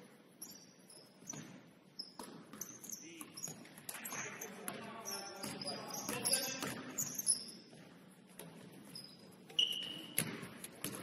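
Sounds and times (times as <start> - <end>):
sneakers squeaking on hardwood: 0.4 - 11.0
basketball dribbling thuds: 1.2 - 8.9, 9.5 - 11.0.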